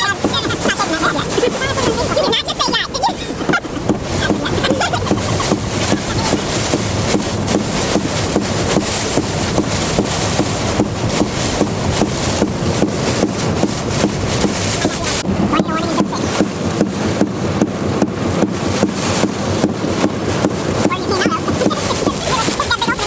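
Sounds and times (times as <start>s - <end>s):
heavy rain: 0.0s - 23.0s
raindrops tapping: 0.0s - 23.0s
storm wind: 0.0s - 23.0s.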